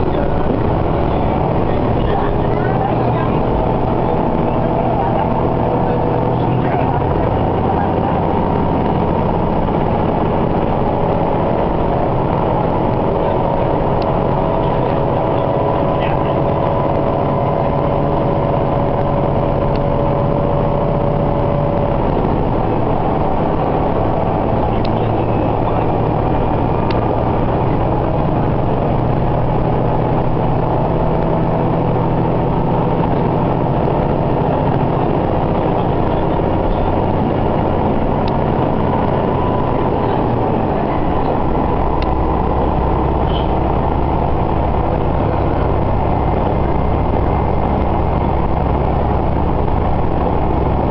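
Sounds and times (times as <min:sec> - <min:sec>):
diesel railcar engine: 0:00.0 - 0:50.9.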